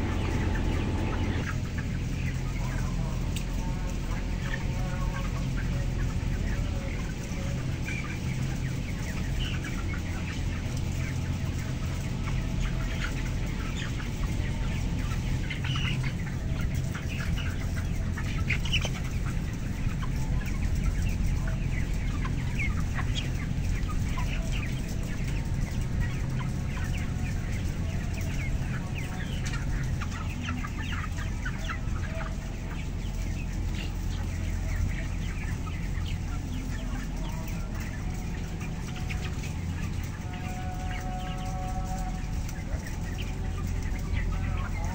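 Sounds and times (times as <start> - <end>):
steady low hum: 0.0 - 37.1
chickens clucking and peeping: 0.0 - 44.9.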